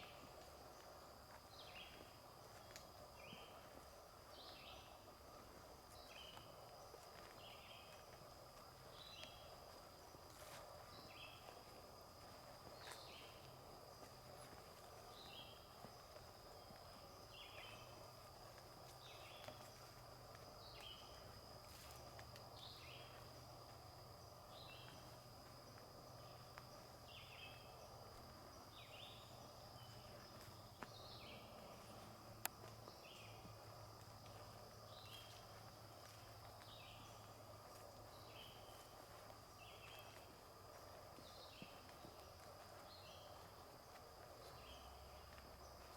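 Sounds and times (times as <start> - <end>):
soft forest ambience: 0.0 - 45.9.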